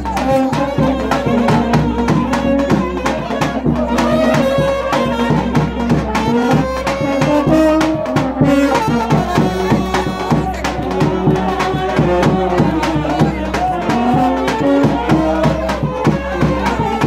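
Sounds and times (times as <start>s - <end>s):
brass band playing: 0.0s - 17.0s
steady drum beat: 0.0s - 17.0s.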